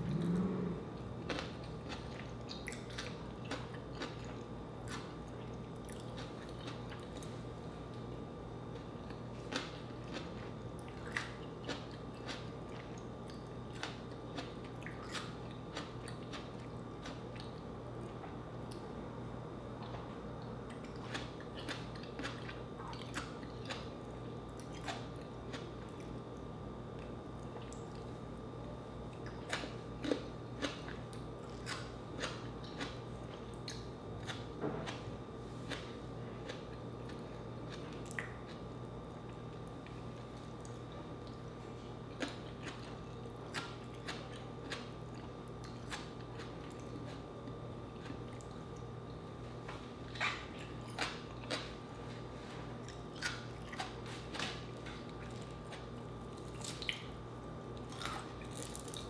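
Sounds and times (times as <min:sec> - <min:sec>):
chewing crunchy fried food: 0:00.0 - 0:59.0.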